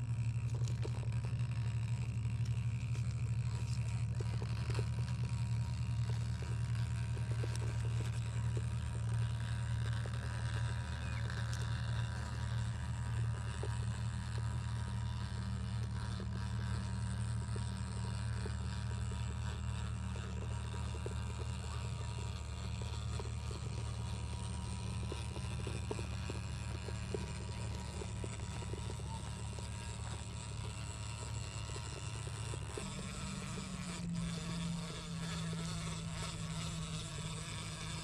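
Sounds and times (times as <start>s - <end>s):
faint small crackles: 0.0s - 38.0s
rc car motor hum: 0.0s - 38.0s.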